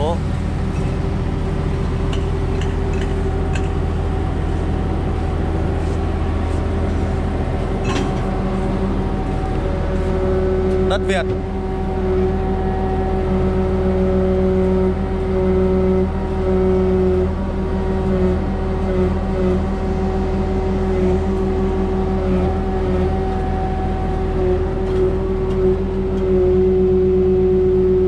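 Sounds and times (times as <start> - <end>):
engine and hydraulic pump humming: 0.0 - 28.0.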